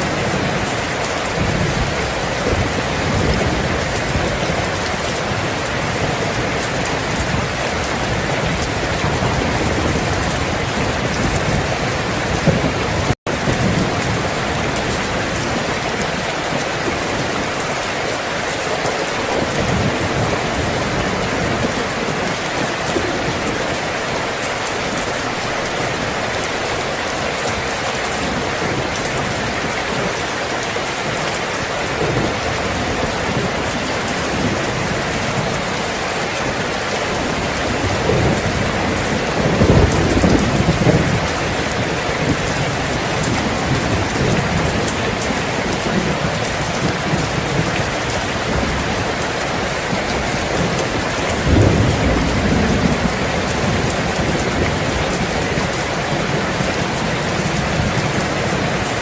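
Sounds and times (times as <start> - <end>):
heavy rainfall: 0.0 - 59.0.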